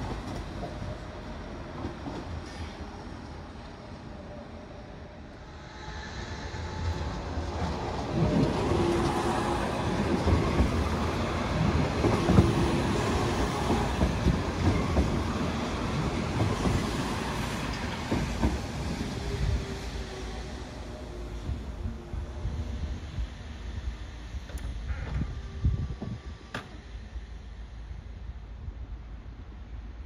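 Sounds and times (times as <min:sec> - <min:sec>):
tram rolling past: 0:00.0 - 0:30.0.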